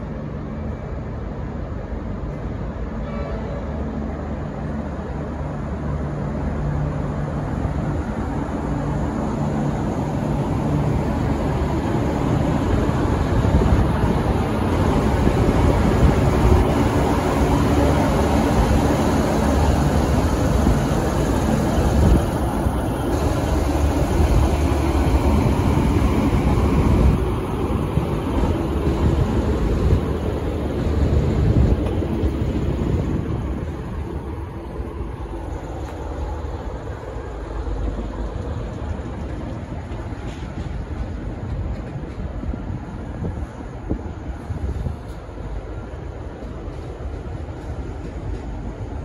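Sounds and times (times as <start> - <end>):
diesel train engines: 0.0 - 49.0
train wheels on rails: 0.0 - 49.0.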